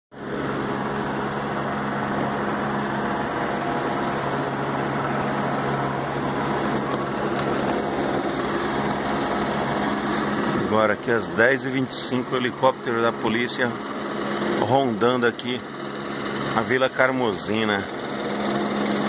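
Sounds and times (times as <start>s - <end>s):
helicopter rotor and engine drone: 0.1s - 19.0s.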